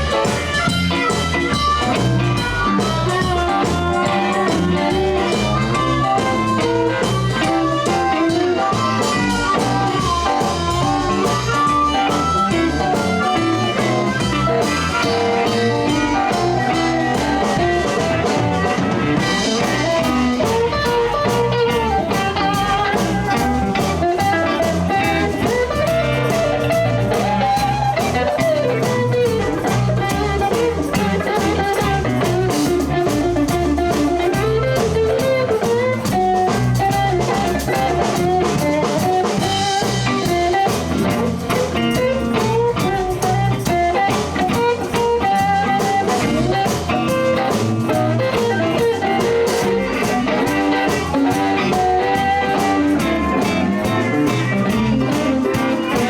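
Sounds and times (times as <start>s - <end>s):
bass guitar: 0.0s - 56.0s
drums: 0.0s - 56.0s
electric guitar lead: 0.0s - 56.0s.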